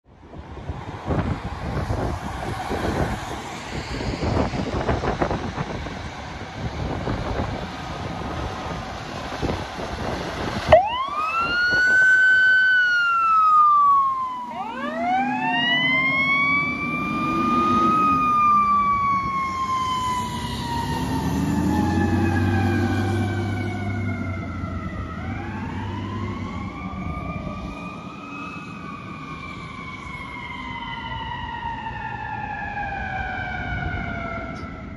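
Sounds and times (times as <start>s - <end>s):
wind buffeting microphone: 0.2s - 28.2s
fire truck sirens wailing: 1.1s - 34.9s.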